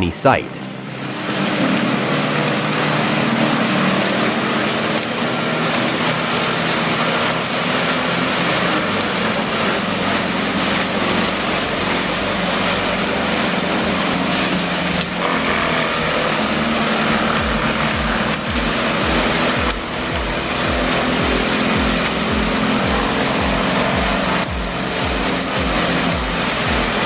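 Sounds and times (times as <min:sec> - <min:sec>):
tree chipper engine: 0:00.6 - 0:27.0.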